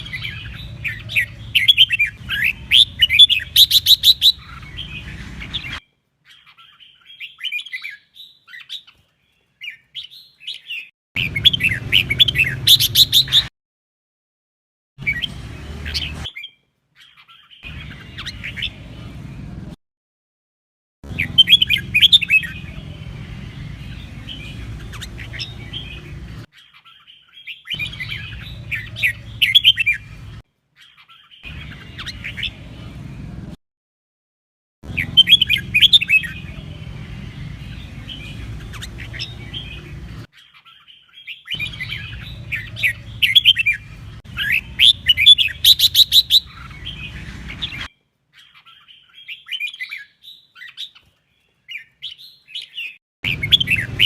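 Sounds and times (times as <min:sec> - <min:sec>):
bird singing chattering phrases: 0:00.0 - 0:13.5, 0:15.0 - 0:19.3, 0:21.1 - 0:33.3, 0:34.9 - 0:51.1, 0:51.7 - 0:54.0.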